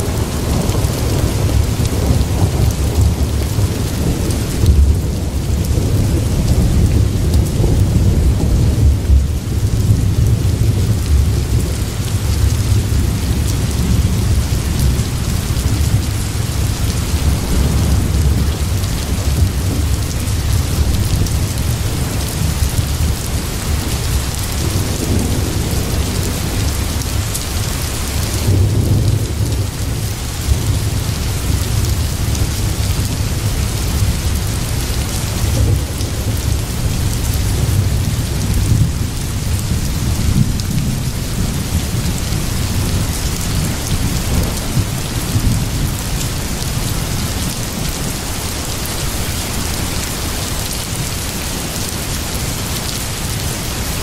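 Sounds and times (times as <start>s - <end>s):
low rumble of thunder: 0.0s - 51.7s
steady rain: 0.0s - 54.0s.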